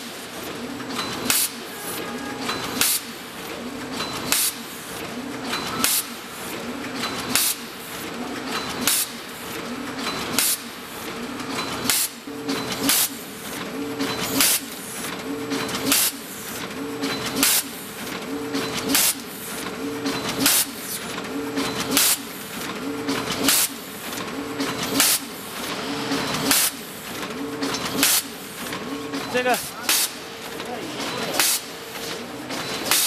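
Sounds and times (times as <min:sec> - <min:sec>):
packaging machine whirring: 0:00.0 - 0:33.0.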